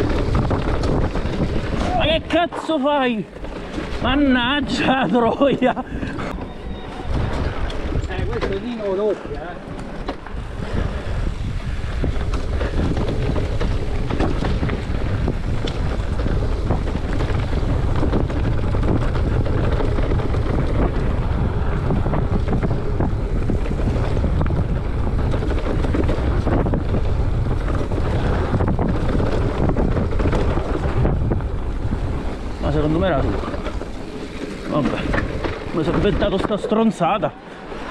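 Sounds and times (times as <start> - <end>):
wind on microphone: 0.0 - 2.6, 3.2 - 36.9
tyres on dirt and leaves: 0.0 - 21.8, 22.7 - 37.9
bike rattles and knocks: 0.0 - 37.9.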